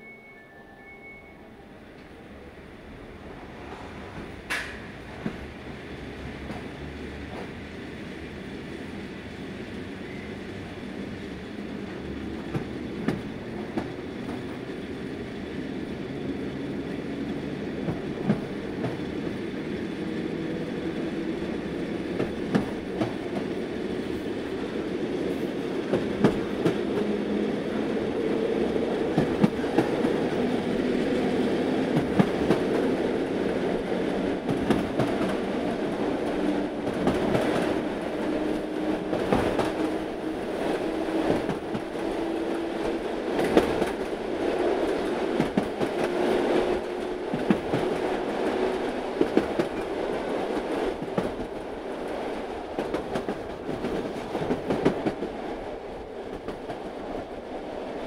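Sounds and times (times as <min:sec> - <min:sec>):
train rumble inside carriage: 0:00.0 - 0:58.0.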